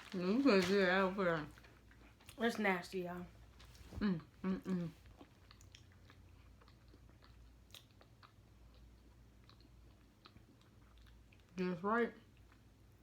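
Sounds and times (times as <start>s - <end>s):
low steady hum: 0.0s - 13.0s
faint chewing: 1.4s - 2.6s, 3.3s - 13.0s.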